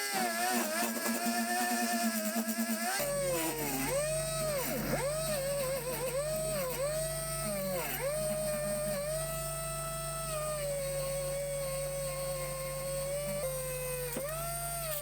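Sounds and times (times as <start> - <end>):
rotary tool whining: 0.0 - 15.0.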